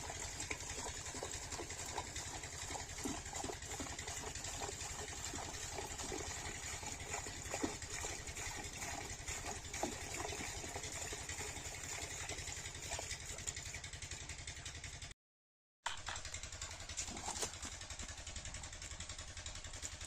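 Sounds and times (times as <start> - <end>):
diesel engine chugging: 0.0 - 15.1, 16.2 - 20.0.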